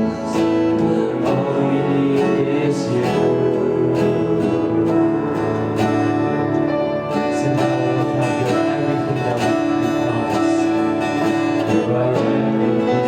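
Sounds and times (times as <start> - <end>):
strummed acoustic guitar: 0.0 - 13.0
sustained chords: 0.0 - 13.0.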